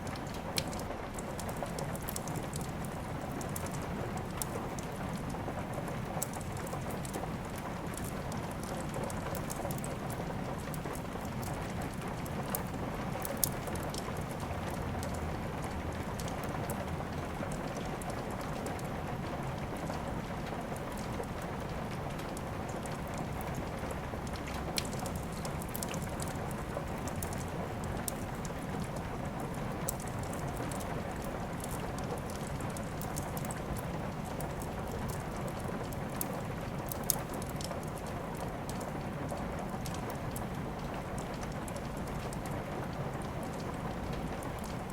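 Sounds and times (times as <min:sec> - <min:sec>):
steady rain: 0:00.0 - 0:44.9
wood fire crackling and popping: 0:00.0 - 0:44.9.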